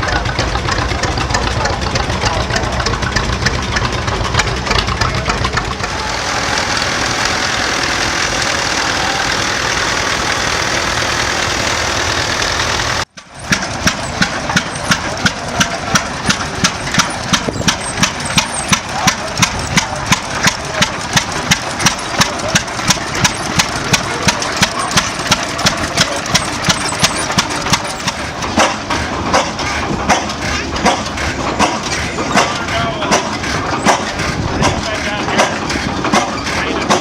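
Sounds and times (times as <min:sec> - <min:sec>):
antique engines running: 0:00.0 - 0:37.0
engine firing in sharp beats: 0:00.0 - 0:37.0.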